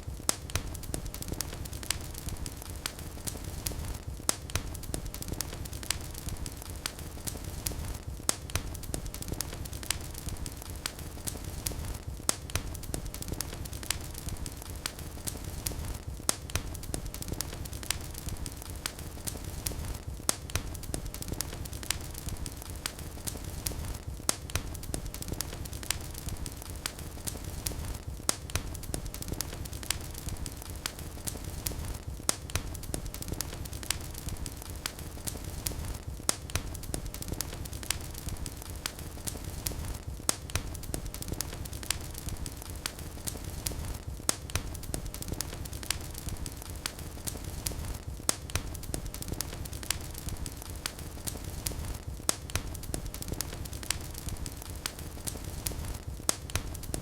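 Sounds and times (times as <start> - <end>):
wood fire crackling: 0.0 - 57.0
loud fire pops: 0.1 - 57.0.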